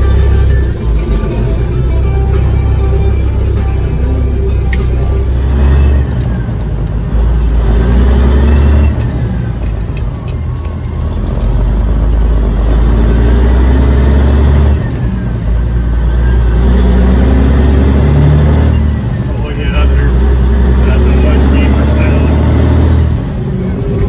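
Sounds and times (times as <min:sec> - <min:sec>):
loud diesel truck engine running: 0:00.0 - 0:24.0.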